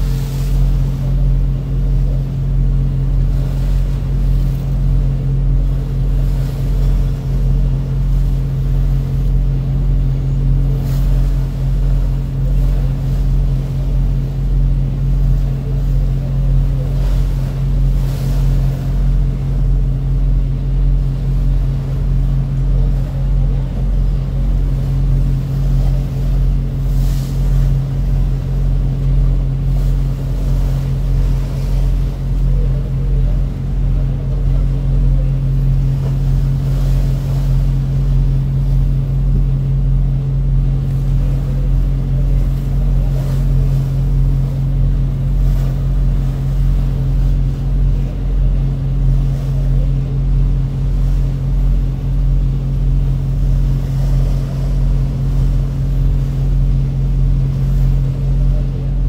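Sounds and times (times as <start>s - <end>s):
boat engine droning: 0.0s - 59.0s
water noise: 0.0s - 59.0s
wind: 0.0s - 59.0s.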